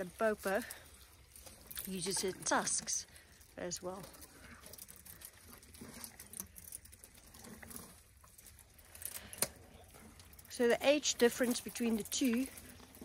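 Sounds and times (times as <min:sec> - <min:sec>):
rustling and crackling twigs: 0:00.0 - 0:13.0.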